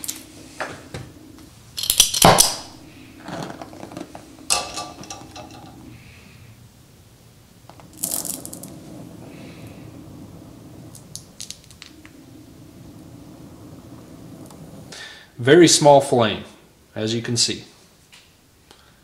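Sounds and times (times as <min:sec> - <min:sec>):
welding torch igniting burst: 0:00.0 - 0:16.2.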